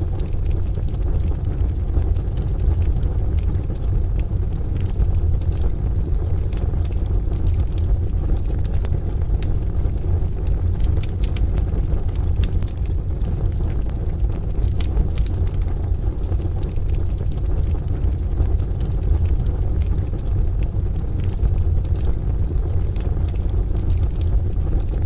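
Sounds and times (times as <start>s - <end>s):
rain: 0.0s - 25.0s
wood stove fire crackling: 0.0s - 25.0s.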